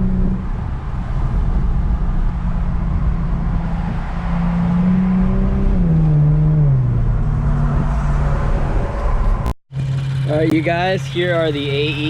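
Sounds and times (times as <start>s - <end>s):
car exhaust drone: 0.0s - 12.0s.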